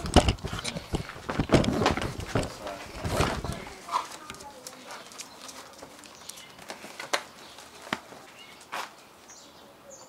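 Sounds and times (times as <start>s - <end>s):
birds chirping faintly: 0.2s - 10.0s.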